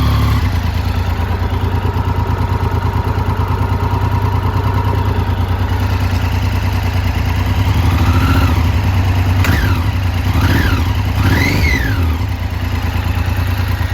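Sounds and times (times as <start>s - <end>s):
motorcycle engine idling and revving: 0.0s - 13.9s.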